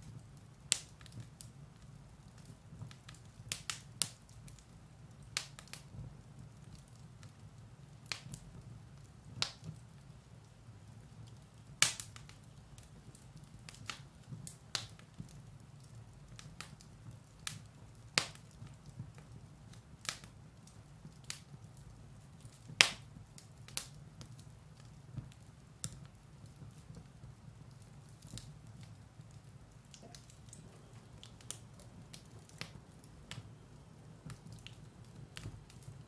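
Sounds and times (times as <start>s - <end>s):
firewood crackling and popping: 0.0s - 36.0s
low rumble of fire: 0.0s - 36.0s.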